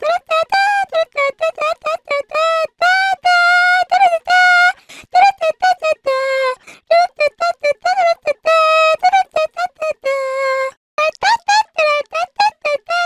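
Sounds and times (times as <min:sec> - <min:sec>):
high-pitched voice singing syllables: 0:00.0 - 0:13.0.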